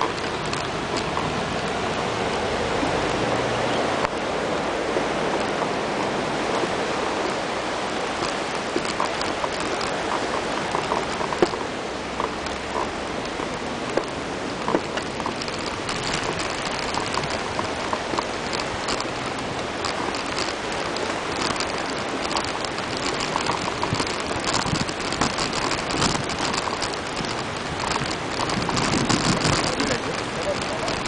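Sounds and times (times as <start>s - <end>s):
bicycle tyres crunching gravel: 0.0s - 31.0s.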